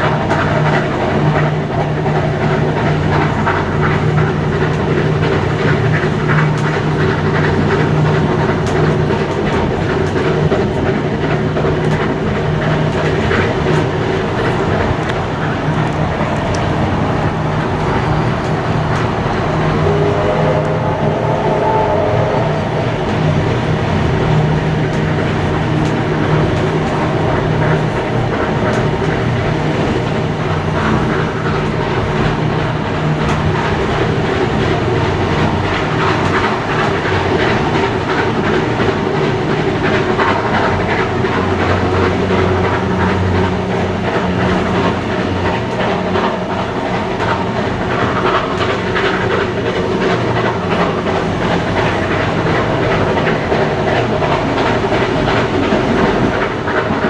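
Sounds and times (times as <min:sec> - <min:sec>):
steam train rumble: 0:00.0 - 0:57.0.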